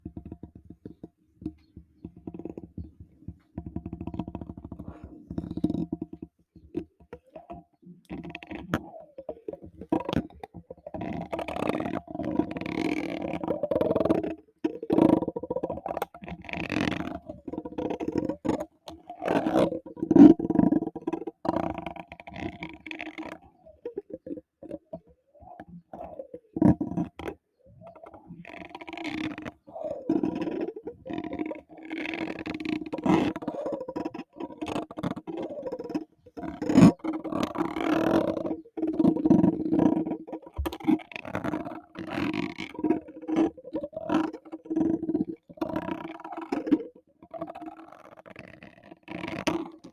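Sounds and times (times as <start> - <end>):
scratching on microphone: 0.1 - 49.9.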